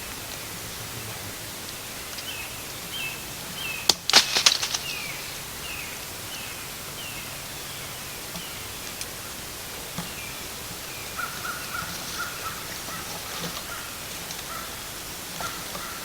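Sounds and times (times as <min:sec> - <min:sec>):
loud crackling rustle: 0:00.0 - 0:16.0.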